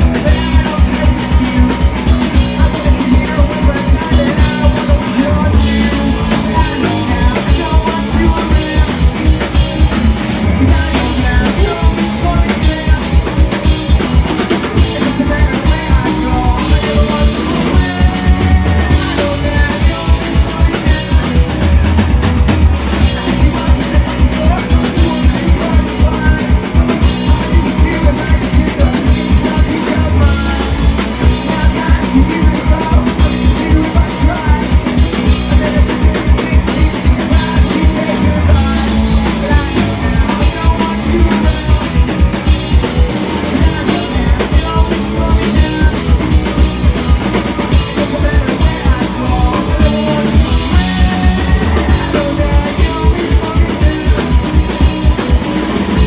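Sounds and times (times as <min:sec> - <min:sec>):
drum kit and bass beat: 0:00.0 - 0:56.0
live rock band playing: 0:00.0 - 0:56.0.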